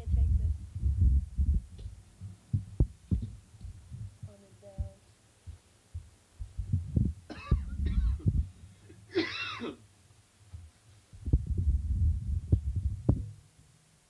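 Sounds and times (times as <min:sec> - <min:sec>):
low thumping and rumbling: 0:00.0 - 0:08.9, 0:10.5 - 0:13.5.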